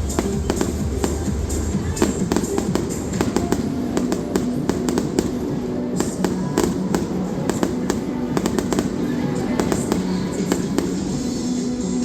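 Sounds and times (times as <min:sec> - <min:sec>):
fireworks popping and banging: 0:00.0 - 0:12.0
music playing: 0:00.0 - 0:12.0.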